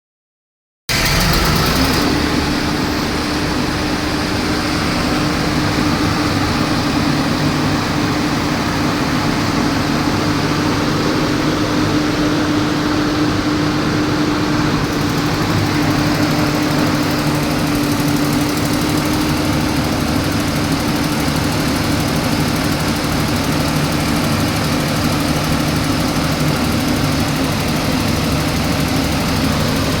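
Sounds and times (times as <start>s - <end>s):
diesel generator drone: 0.9s - 30.0s.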